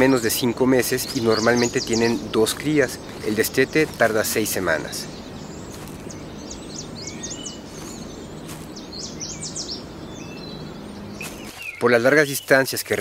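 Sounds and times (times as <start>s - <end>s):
high bird chirps: 0.0s - 13.0s.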